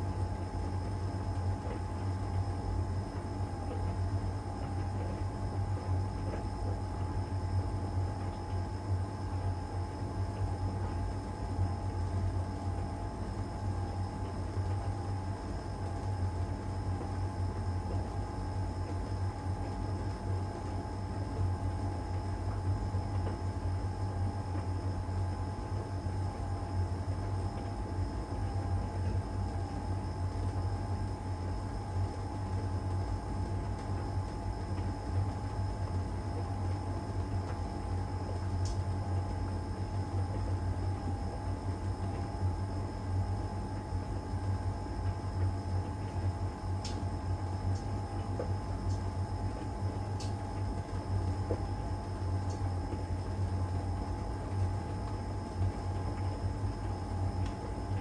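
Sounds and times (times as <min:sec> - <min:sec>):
dryer hum and whine: 0:00.0 - 0:58.0.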